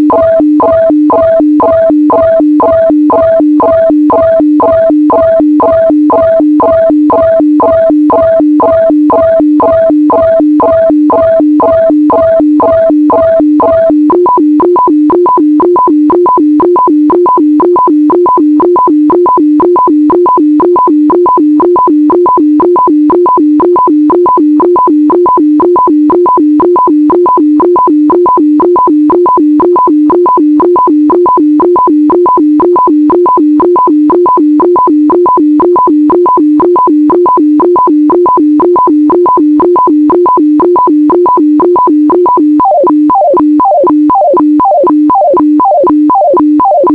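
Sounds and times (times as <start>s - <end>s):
radio data signal tone and blips: 0.0s - 46.9s.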